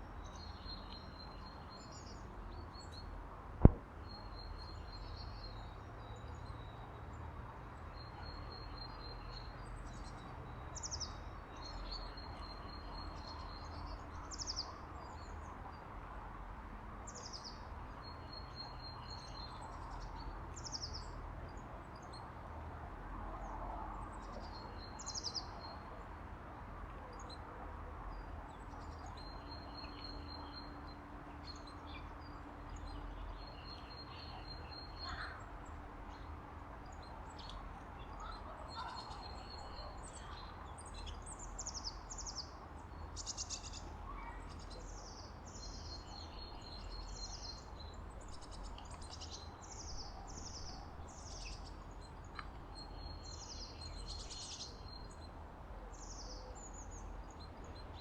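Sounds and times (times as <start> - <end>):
small songbirds chirping: 0.0 - 16.0, 17.1 - 22.5, 23.4 - 26.1, 28.0 - 58.0.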